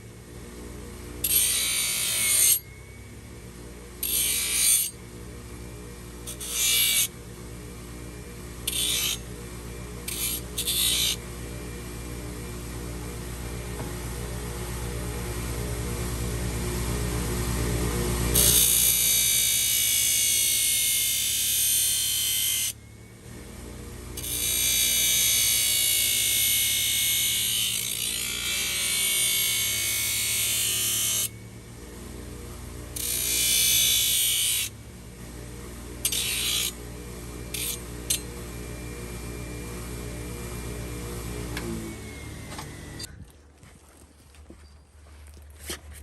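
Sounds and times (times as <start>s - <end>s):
power tool grinding hoof: 1.2s - 7.4s, 8.1s - 13.9s, 17.9s - 43.1s.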